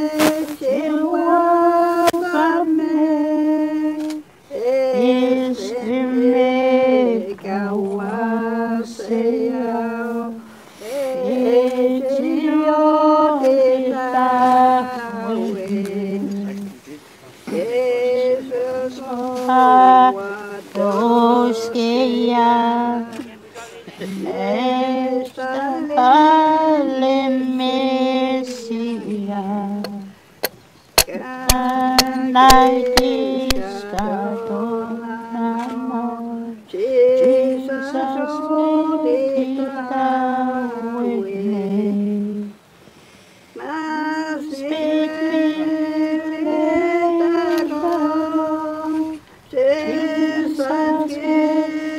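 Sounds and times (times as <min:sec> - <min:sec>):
voices singing in unison: 0:00.0 - 0:51.9.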